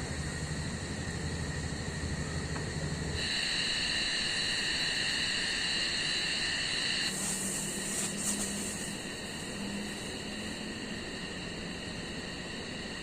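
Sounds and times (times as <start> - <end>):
insects trilling: 0.0 - 13.0
steady hiss: 0.0 - 13.0.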